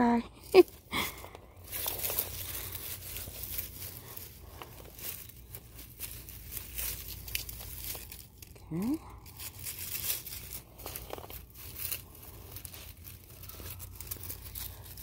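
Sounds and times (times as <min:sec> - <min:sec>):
dry leaves crinkling: 0:00.0 - 0:15.0
roots tearing from soil: 0:00.0 - 0:15.0.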